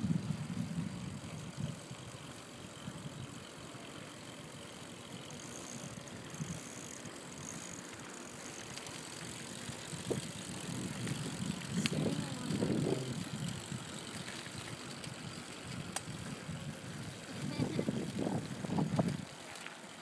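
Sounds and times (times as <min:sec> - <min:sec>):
bicycles rolling on pavement: 0:00.0 - 0:20.0.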